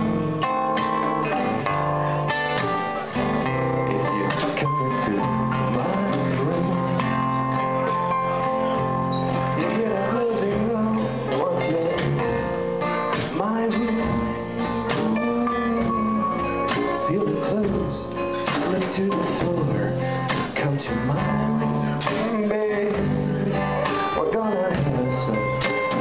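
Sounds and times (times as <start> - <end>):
drum kit: 0.0 - 26.0
strummed acoustic guitar: 0.0 - 26.0.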